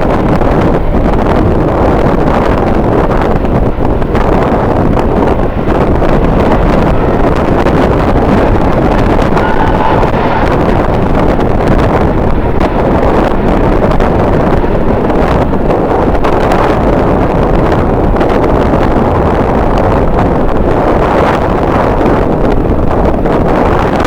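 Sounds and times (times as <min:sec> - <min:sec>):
strong wind on microphone: 0:00.0 - 0:24.0.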